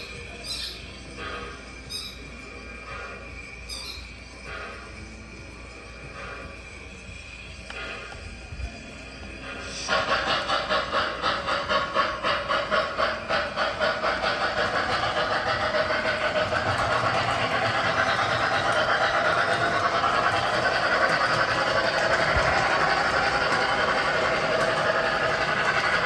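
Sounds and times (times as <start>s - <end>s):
model train running: 0.0s - 26.0s.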